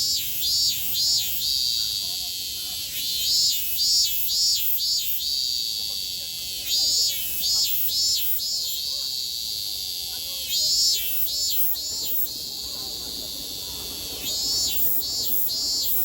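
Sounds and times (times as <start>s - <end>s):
cicada chorus drone: 0.0s - 16.0s
loud cicada pulsing call: 0.0s - 16.0s.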